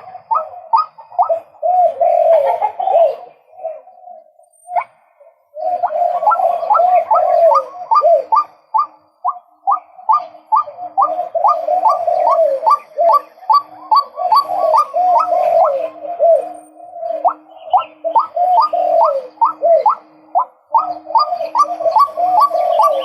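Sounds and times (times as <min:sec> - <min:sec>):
lower continuous bird calling: 0:00.0 - 0:23.0.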